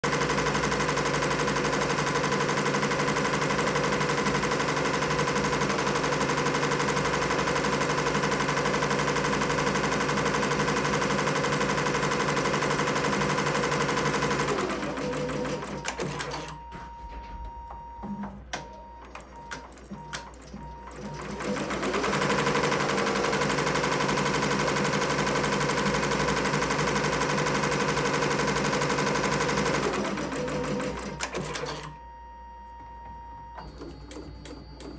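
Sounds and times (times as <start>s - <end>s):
embroidery machine stitching: 0.0s - 16.6s, 19.0s - 31.9s.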